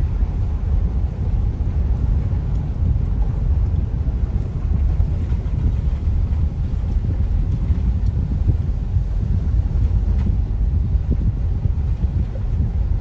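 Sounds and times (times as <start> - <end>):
vehicle rumble: 0.0 - 13.0
wind buffeting microphone: 0.0 - 13.0.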